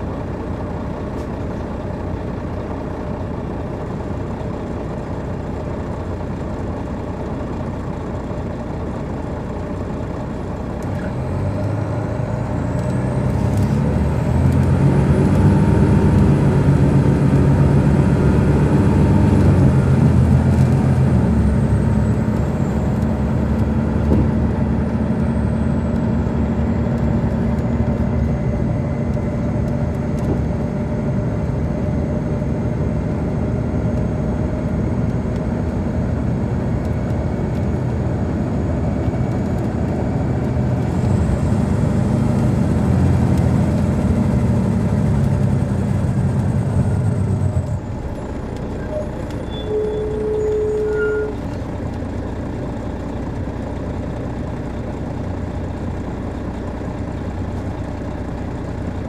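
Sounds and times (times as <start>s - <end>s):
diesel bus engine pulling hard: 0.0s - 59.0s.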